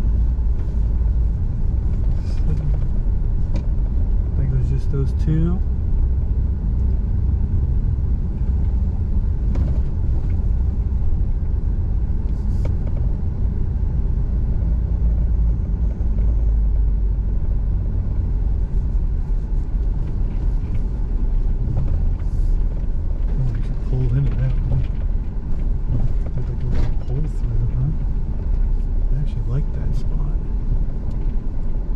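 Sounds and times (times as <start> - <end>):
road noise: 0.0 - 31.9
vehicle engine rumble: 0.0 - 31.9.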